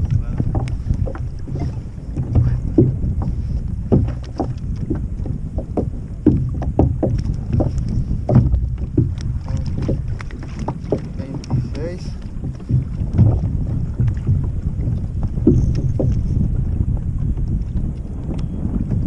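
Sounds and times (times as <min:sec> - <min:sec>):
short knocks around kayak: 0:00.0 - 0:19.0
wind on microphone: 0:00.0 - 0:19.0.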